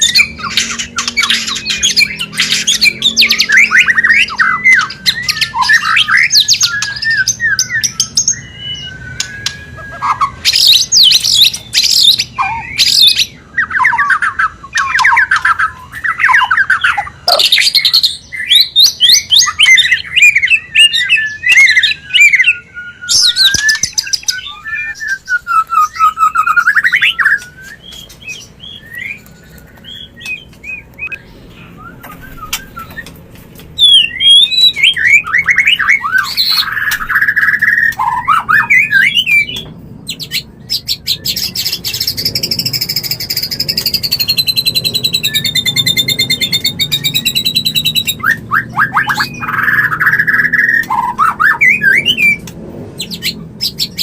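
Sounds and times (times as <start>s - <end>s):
bird chattering trills and whistles: 0.0s - 33.2s, 33.8s - 54.0s.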